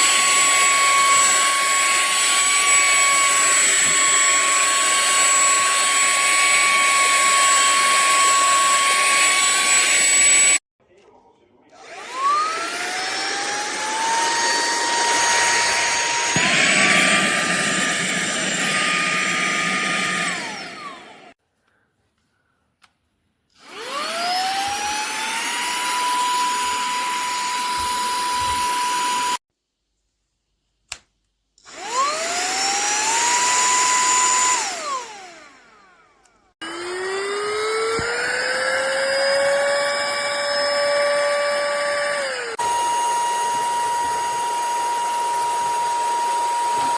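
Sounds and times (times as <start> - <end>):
handheld vacuum cleaner motor whine: 0.0 - 10.6, 11.7 - 21.4, 23.5 - 29.4, 31.6 - 46.9.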